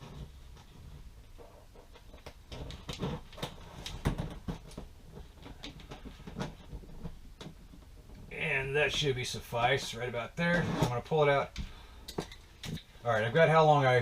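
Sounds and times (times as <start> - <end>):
wire rope clicking and rustling: 0.0 - 9.1, 10.6 - 13.9.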